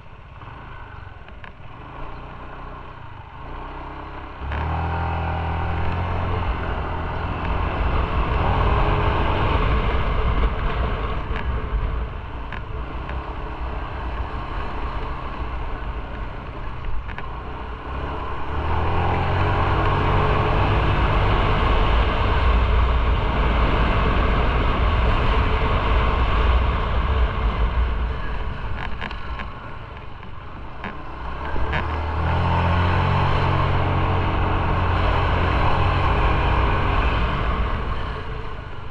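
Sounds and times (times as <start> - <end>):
motorcycle engine running: 0.0 - 38.9
wind noise on microphone: 4.3 - 38.9.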